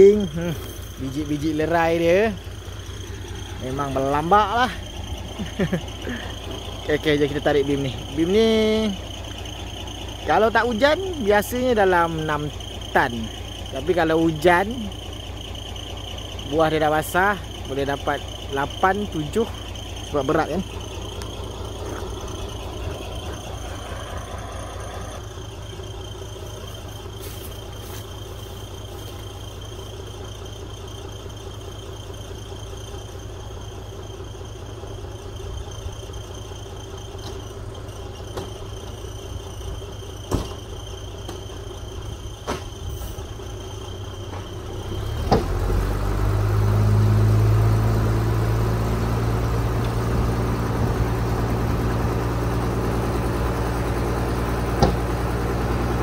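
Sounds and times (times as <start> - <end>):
lorry engine idling: 0.0 - 56.0.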